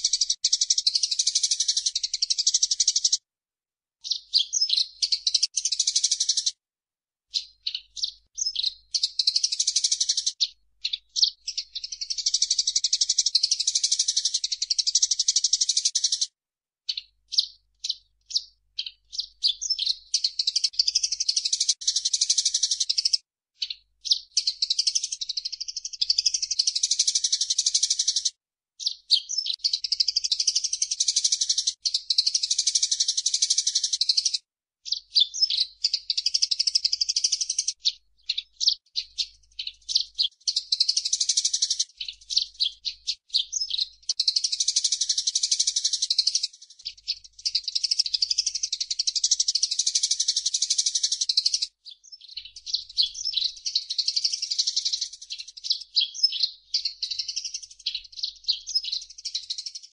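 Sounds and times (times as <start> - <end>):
sparrow chirping: 0.0 - 3.2, 4.0 - 6.6, 7.3 - 16.3, 16.9 - 59.9.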